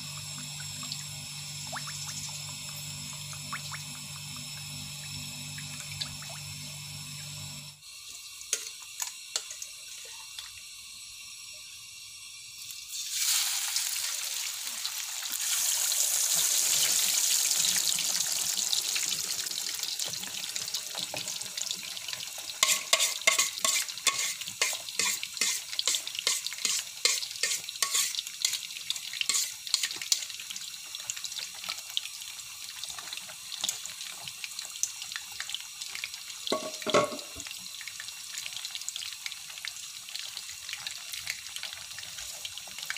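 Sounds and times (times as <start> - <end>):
fish sizzling in hot oil: 0.0 - 42.9.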